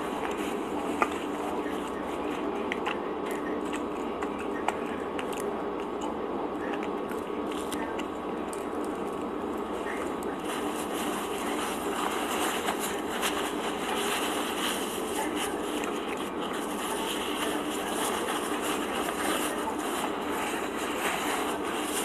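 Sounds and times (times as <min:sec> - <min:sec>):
paper napkin crinkling: 0:00.0 - 0:04.5, 0:08.5 - 0:22.0
steady background hum: 0:00.0 - 0:22.0.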